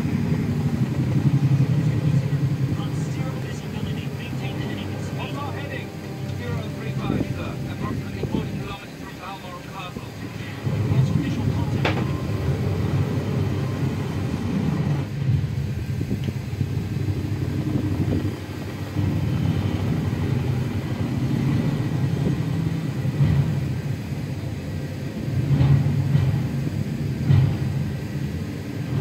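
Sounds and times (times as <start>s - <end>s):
helicopters rumbling: 0.0s - 29.0s.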